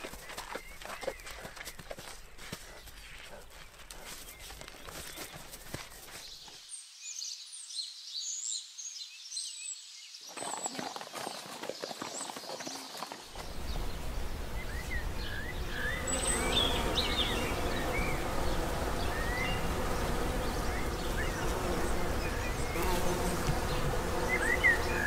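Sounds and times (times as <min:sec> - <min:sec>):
outdoor background noise: 0:00.0 - 0:25.0
small birds chirping: 0:00.0 - 0:25.0.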